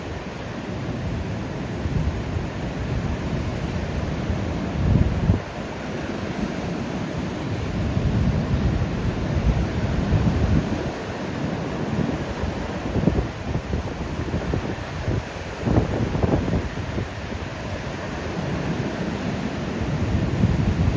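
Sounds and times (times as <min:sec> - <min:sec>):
ocean waves breaking: 0:00.0 - 0:20.9
wind on microphone: 0:00.9 - 0:20.9.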